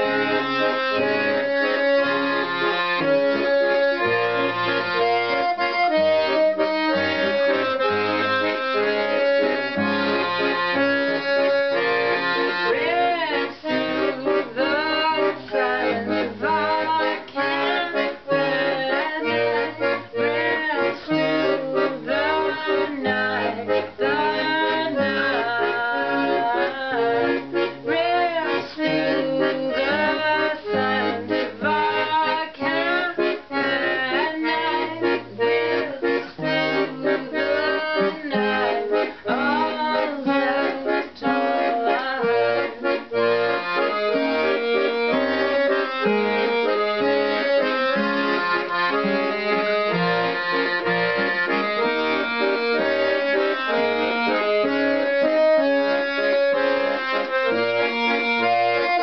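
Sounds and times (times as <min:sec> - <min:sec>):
piano accordion: 0:00.0 - 0:59.0.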